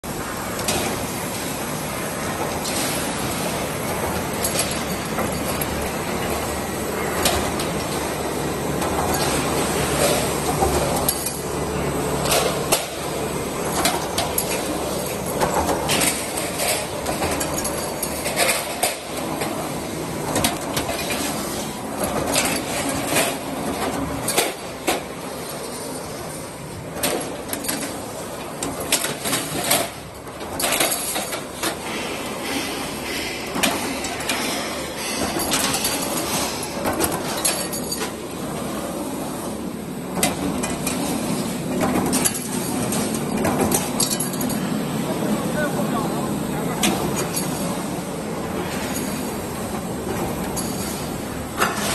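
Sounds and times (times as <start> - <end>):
roll forming machine running: 0.1 - 51.9.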